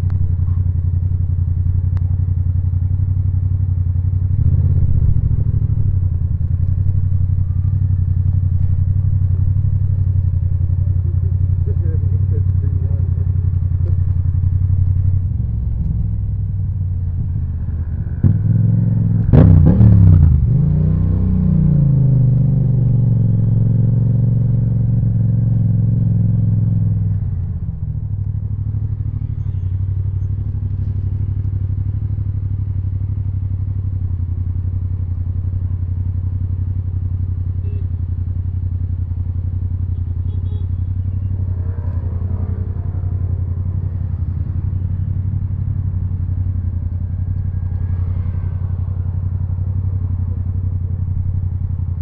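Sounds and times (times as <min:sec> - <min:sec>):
motorcycle engine revving: 0:02.2 - 0:52.0.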